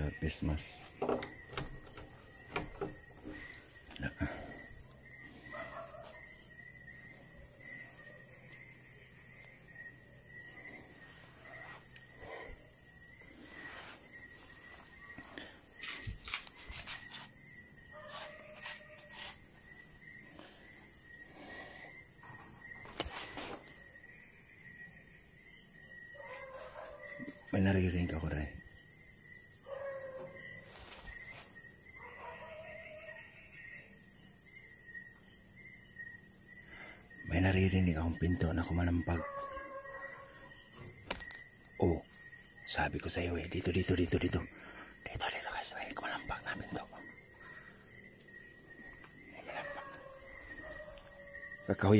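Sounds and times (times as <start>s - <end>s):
insects chirping in a trill: 0.0s - 51.9s.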